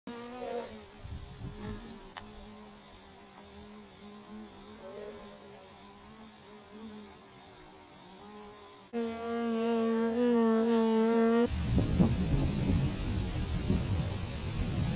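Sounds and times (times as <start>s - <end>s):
bee flying up close: 0.1s - 13.5s
honeybees buzzing: 0.1s - 14.9s.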